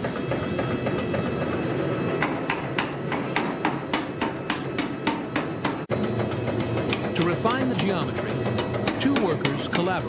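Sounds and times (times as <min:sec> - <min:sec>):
power hammer striking hot steel: 0:00.0 - 0:10.0.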